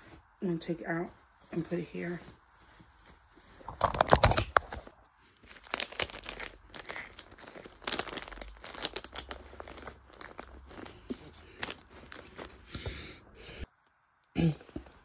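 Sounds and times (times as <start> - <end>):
plastic and clothes crinkling: 0.0 - 13.0.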